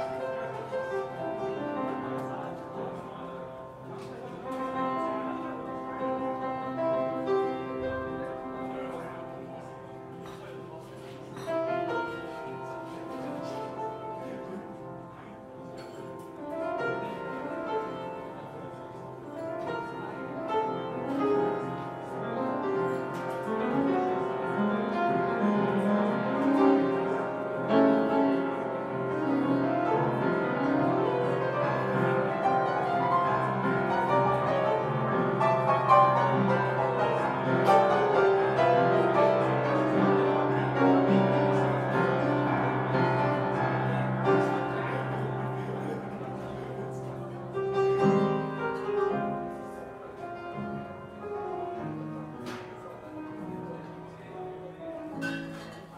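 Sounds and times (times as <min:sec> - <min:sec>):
piano: 0:00.0 - 0:55.9.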